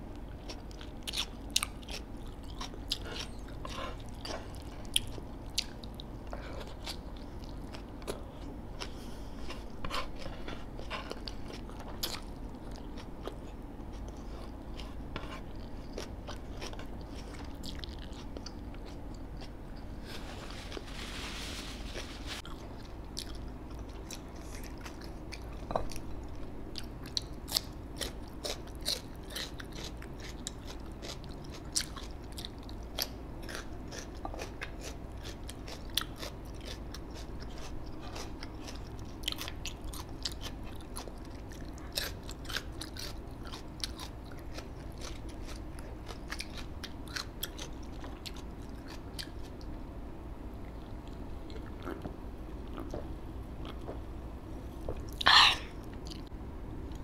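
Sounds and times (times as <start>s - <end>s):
person crunching and chewing food: 0.2s - 49.8s, 50.6s - 54.1s, 54.7s - 57.0s.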